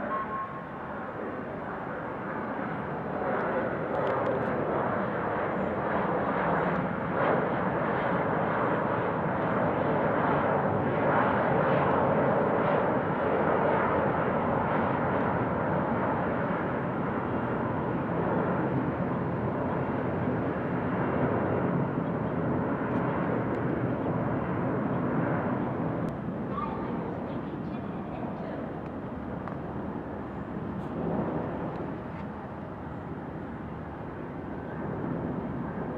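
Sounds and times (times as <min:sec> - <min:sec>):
jet airliner engines: 0:00.0 - 0:35.9.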